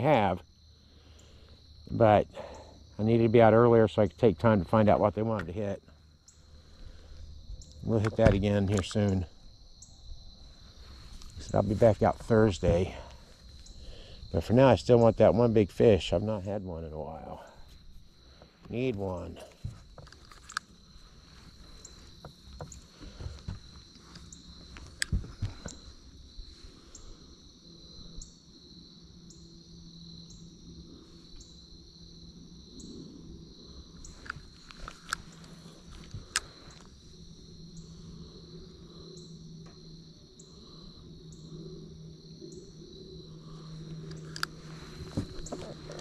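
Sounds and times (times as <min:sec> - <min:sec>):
faint low hum: 0:00.0 - 0:46.0
insects trilling: 0:00.0 - 0:46.0.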